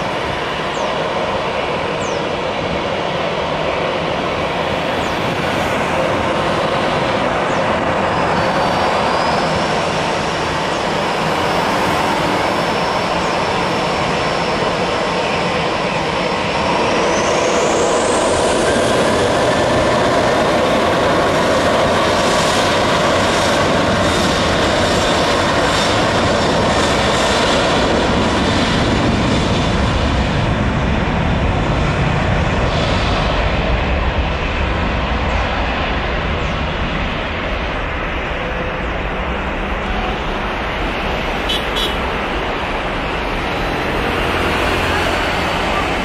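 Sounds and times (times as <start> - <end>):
jet engine whine: 0.0 - 46.0
jet engines roaring: 0.0 - 46.0.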